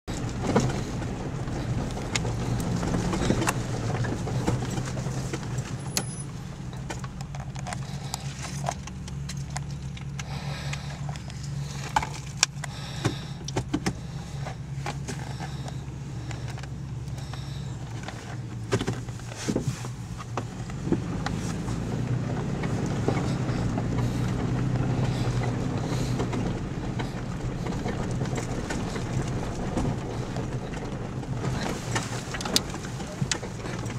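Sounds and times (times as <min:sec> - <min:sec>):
engine running low: 0:00.0 - 0:33.9.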